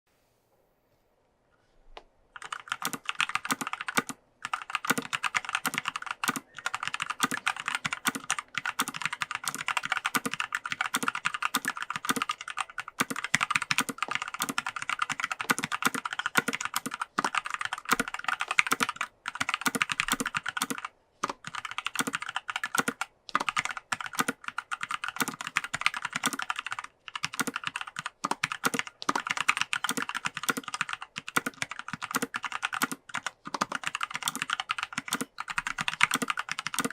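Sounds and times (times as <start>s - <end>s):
mechanical keyboard typing: 2.4s - 36.9s.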